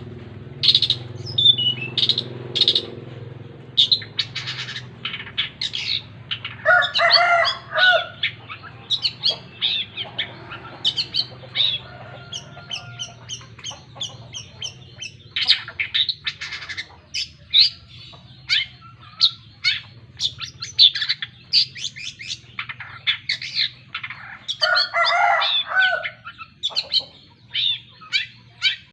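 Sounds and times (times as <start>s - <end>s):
bird singing chirps and trills: 0.0s - 28.9s.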